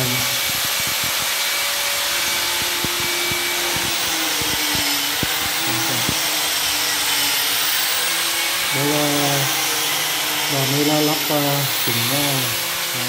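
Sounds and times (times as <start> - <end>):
electric drill whining: 0.0 - 13.0.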